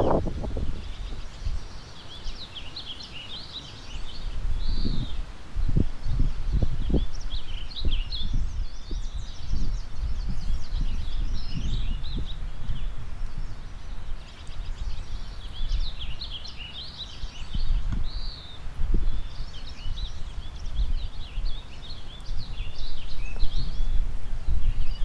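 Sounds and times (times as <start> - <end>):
wind gusts on microphone: 0.0 - 2.4, 4.0 - 16.4, 17.3 - 25.0
songbirds singing: 0.0 - 25.0.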